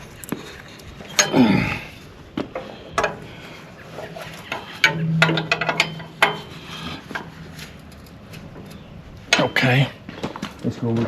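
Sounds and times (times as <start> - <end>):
hand tools clinking on steel: 0.0 - 2.0, 2.6 - 11.0
low hum: 0.0 - 10.6.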